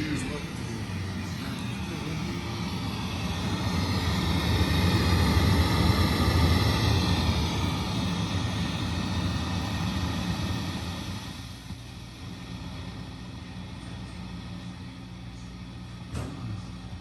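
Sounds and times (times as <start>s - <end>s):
amplifier rushing hiss: 0.0s - 17.0s
steady low hum: 0.0s - 17.0s.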